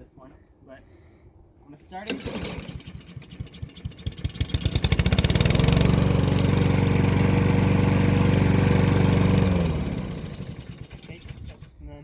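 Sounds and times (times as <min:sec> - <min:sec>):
lawn mower engine starting and running: 0:01.9 - 0:11.8.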